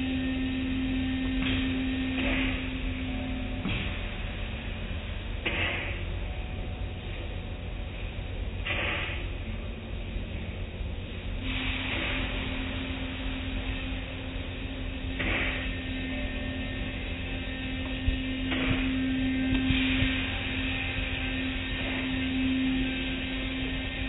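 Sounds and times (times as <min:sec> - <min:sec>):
car wash machinery humming: 0:00.0 - 0:24.0.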